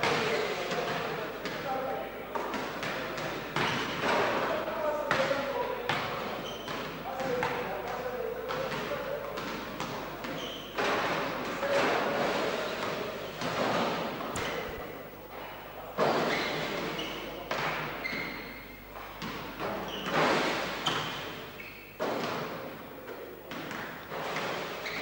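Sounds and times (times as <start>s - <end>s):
basketballs bouncing on wooden floor: 0.0s - 12.2s, 16.0s - 25.0s.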